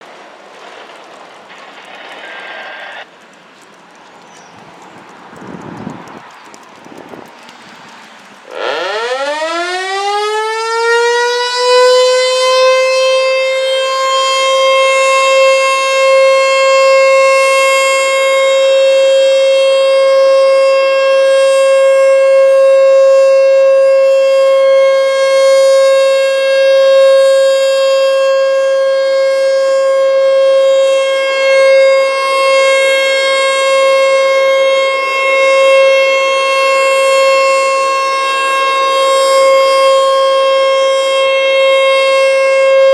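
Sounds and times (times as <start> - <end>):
warning siren winding up: 8.5 - 42.9.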